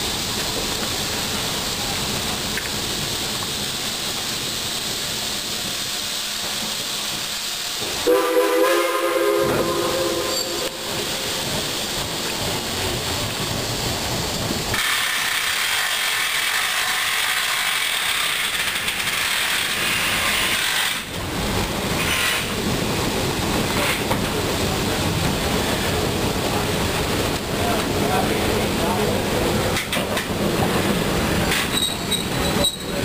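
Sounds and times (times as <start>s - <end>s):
high steam hiss: 0.0s - 33.0s
train wheels rattling: 0.0s - 33.0s.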